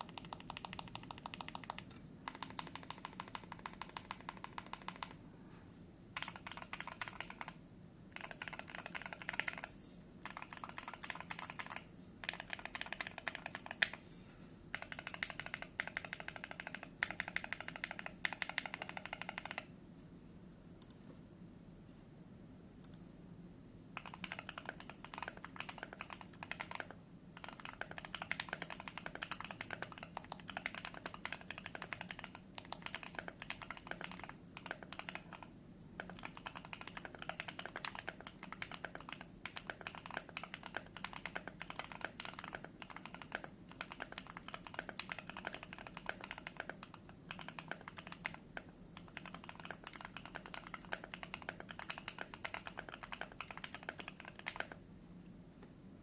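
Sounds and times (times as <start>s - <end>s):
mechanical keyboard typing: 0.0s - 5.2s, 6.2s - 14.0s, 14.7s - 19.7s, 24.0s - 54.8s.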